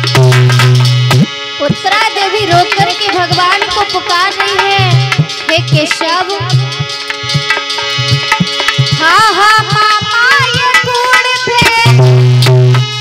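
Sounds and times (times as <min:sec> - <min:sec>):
hand drums: 0:00.0 - 0:13.0
harmonium chords: 0:00.0 - 0:13.0
ornamented melody line: 0:00.0 - 0:13.0.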